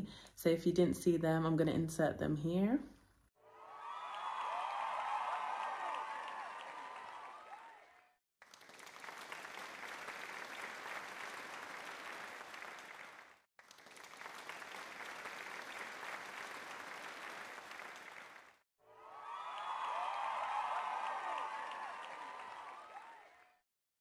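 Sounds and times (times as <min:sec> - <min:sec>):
crowd clapping: 0:03.6 - 0:23.6.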